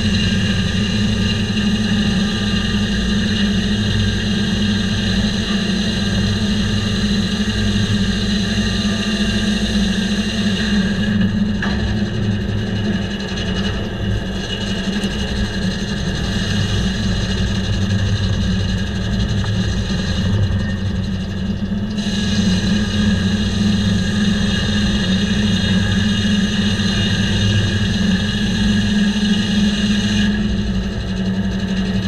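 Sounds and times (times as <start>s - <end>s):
engine hum: 0.0s - 32.0s.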